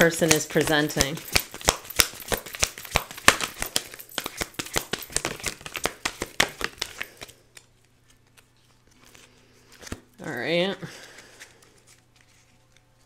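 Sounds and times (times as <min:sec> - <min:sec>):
cards being shuffled: 0:00.0 - 0:10.1, 0:10.8 - 0:13.0.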